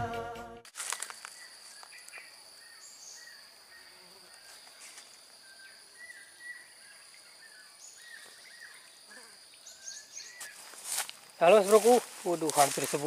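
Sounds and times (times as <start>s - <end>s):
insects trilling: 0.7s - 13.0s.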